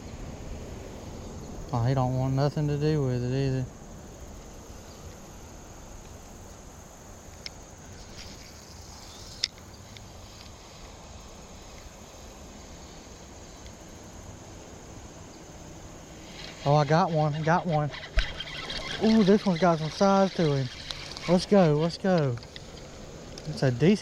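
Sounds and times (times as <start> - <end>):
insects calling: 0.0 - 24.0.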